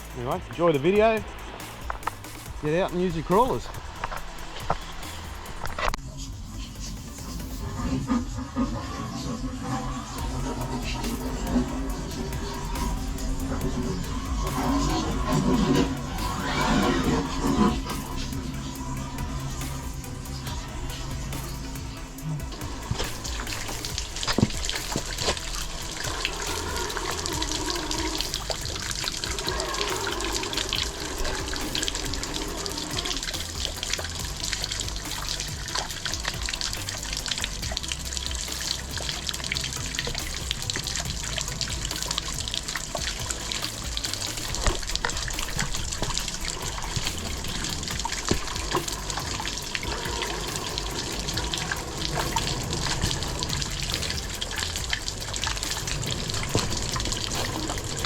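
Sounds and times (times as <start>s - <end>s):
creek water rushing over rocks: 8.7s - 58.0s.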